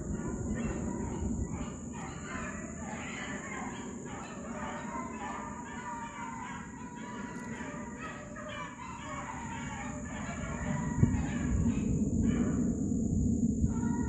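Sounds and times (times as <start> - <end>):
pack of dogs baying: 0.0 - 12.6.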